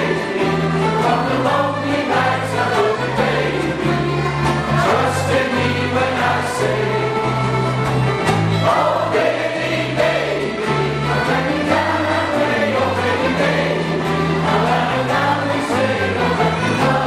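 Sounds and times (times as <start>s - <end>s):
men singing together: 0.0s - 7.5s, 8.6s - 17.0s.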